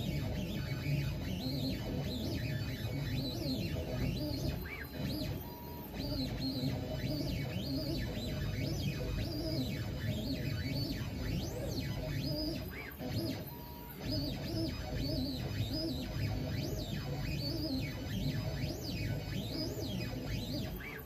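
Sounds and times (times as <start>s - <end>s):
stepper motor whine sweeping in pitch: 0.0s - 21.0s.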